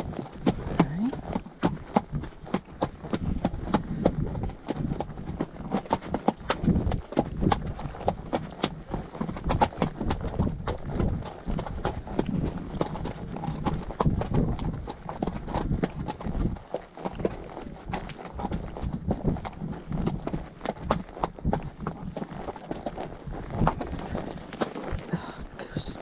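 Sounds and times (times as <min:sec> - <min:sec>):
horse hooves clip-clopping: 0:00.0 - 0:26.0.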